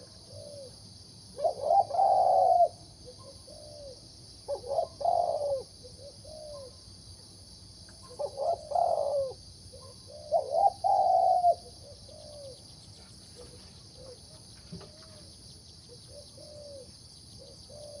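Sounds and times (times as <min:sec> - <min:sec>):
dove cooing: 0:00.0 - 0:00.8, 0:01.4 - 0:06.8, 0:08.0 - 0:15.3, 0:15.9 - 0:18.0.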